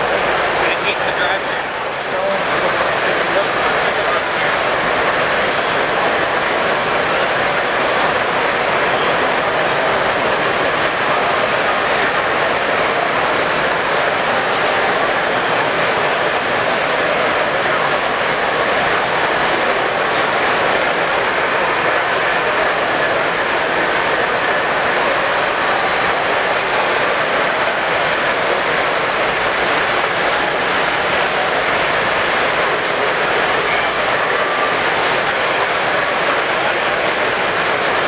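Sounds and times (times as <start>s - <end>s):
crowd din in a hall: 0.0s - 38.0s.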